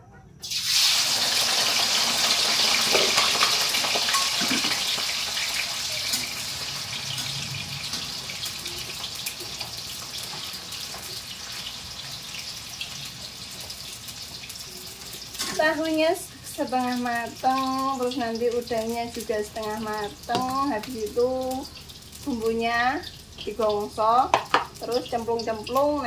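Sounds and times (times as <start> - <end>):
tofu sizzling in hot oil: 0.4 - 26.0.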